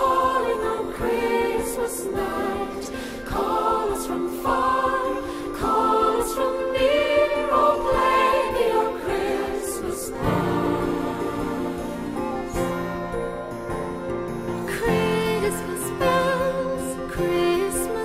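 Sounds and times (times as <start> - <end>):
choir singing carol-style music: 0.0 - 18.0.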